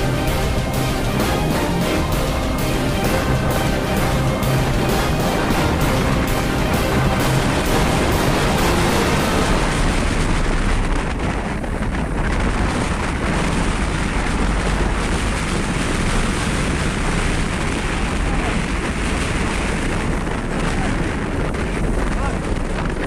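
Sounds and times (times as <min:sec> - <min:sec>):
water splashing around boat: 0:00.0 - 0:23.0
wind buffeting microphone: 0:00.0 - 0:23.0.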